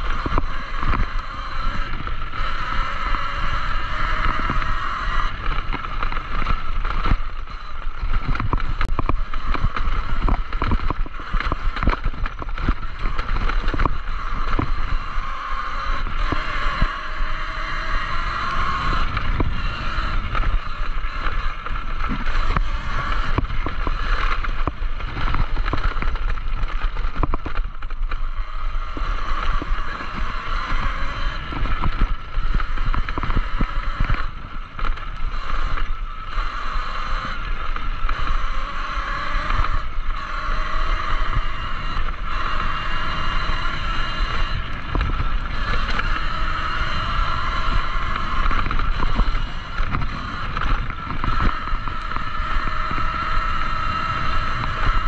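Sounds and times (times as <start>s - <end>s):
bike rattling over bumps: 0.0s - 55.0s
electric motor whine: 0.0s - 55.0s
wind on microphone: 0.0s - 55.0s.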